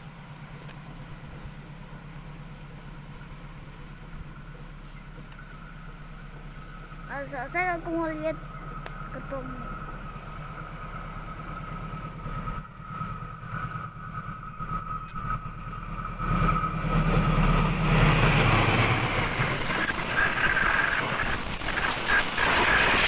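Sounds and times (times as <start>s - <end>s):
diesel locomotive engine rumble: 0.0s - 23.0s
wheels on rails: 0.0s - 23.0s.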